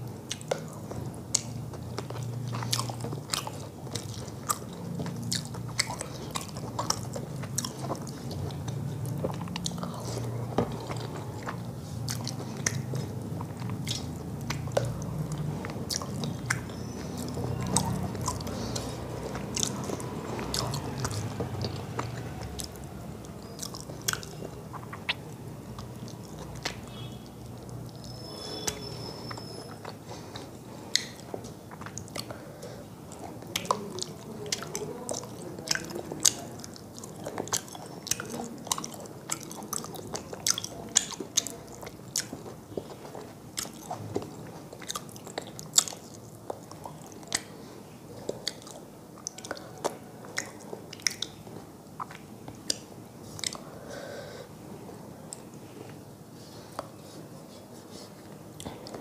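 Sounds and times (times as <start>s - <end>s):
close-up chewing: 0.0s - 59.0s
sharp mouth clicks and smacks: 0.2s - 53.7s.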